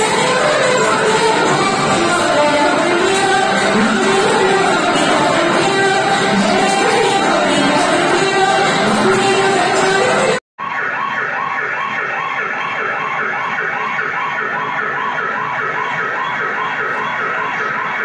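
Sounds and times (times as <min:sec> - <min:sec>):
dance music: 0:00.0 - 0:10.8, 0:12.5 - 0:18.0
siren-like wail over loudspeaker: 0:00.0 - 0:18.0.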